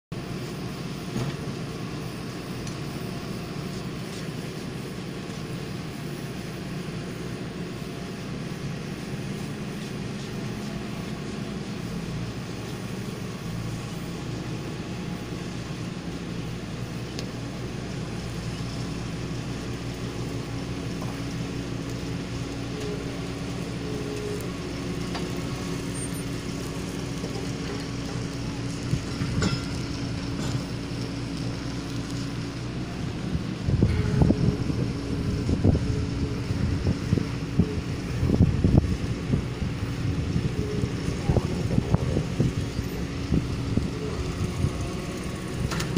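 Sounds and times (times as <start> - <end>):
diesel machinery engines droning: 0.1 - 45.9.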